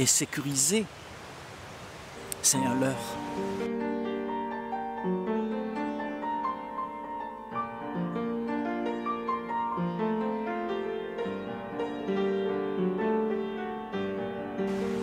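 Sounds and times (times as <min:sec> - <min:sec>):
slow keyboard music: 0:02.2 - 0:15.0.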